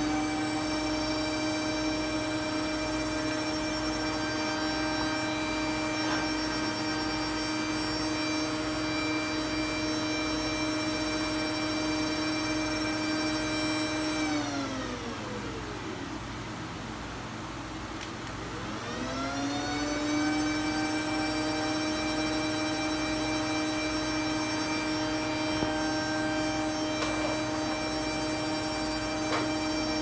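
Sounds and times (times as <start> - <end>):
electric motor whining: 0.0 - 15.6, 18.8 - 30.0.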